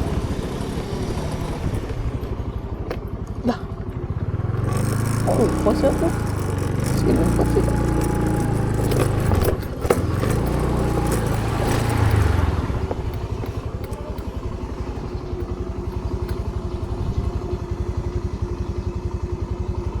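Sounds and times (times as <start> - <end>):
engine knocks and clatter: 0.0 - 20.0
motorcycle engine idling: 0.0 - 20.0.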